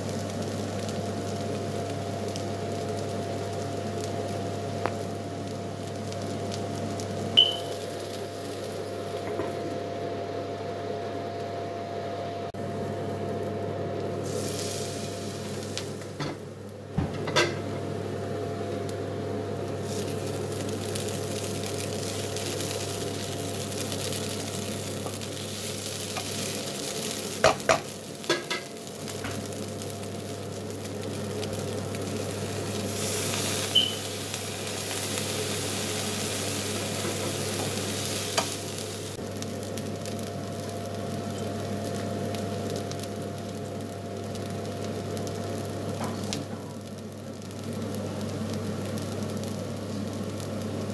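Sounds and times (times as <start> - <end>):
food sizzling in a wok: 0.0 - 50.9.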